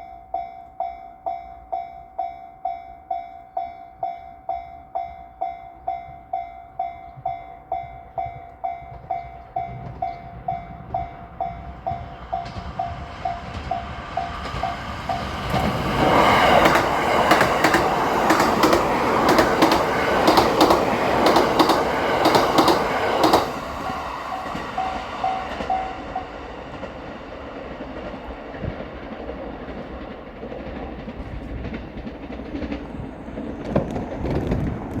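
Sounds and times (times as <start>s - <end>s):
train wheels clicking over rail joints: 5.8s - 35.0s.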